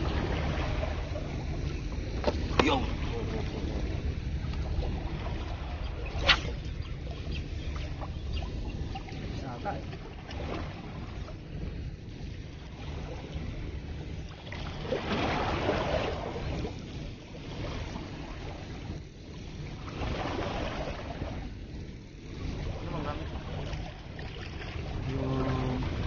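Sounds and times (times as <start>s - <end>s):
sea waves washing ashore: 0.0s - 26.0s
wind rumble on microphone: 0.0s - 26.0s.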